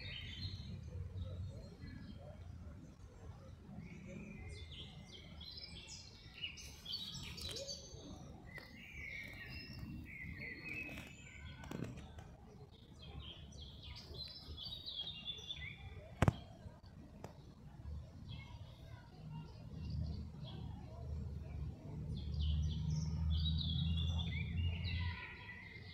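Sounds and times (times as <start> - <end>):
songbirds chirping and singing: 0.0 - 25.9.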